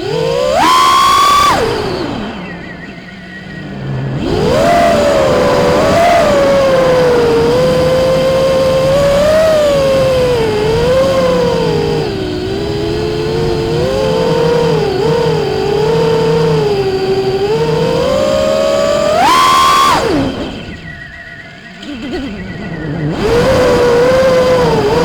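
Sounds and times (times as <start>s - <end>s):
drone electric motors whining: 0.0s - 25.0s.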